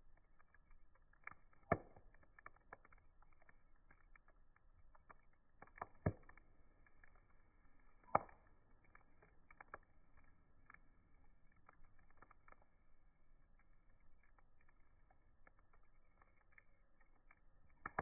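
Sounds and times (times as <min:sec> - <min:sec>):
campfire wood crackling: 0:00.0 - 0:18.0.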